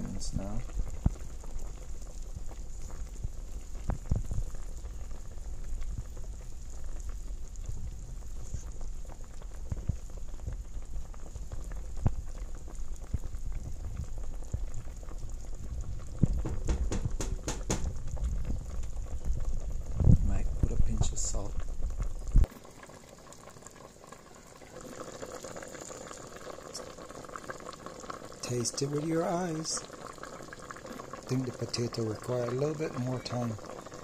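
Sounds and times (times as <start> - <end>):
stew boiling and bubbling: 0.0 - 34.0.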